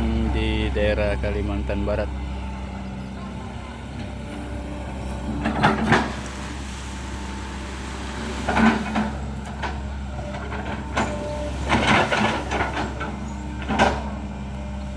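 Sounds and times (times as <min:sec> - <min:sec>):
excavator engine running: 0:00.0 - 0:14.9.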